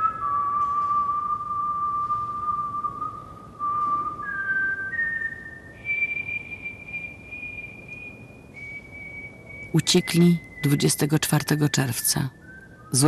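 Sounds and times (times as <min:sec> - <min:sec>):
person whistling a tune: 0:00.0 - 0:13.0.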